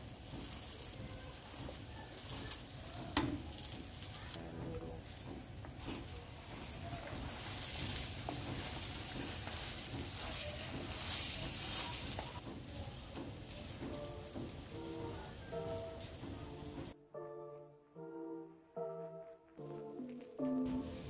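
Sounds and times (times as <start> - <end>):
butter sizzling in a frying pan: 0.0 - 17.0.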